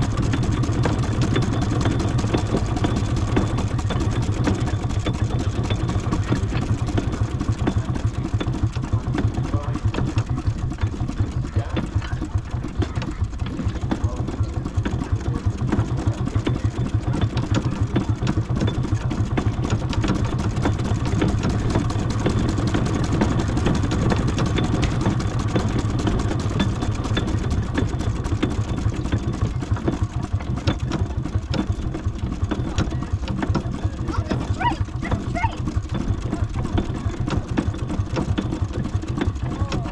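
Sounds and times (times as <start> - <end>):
steam engine running: 0.0 - 39.9.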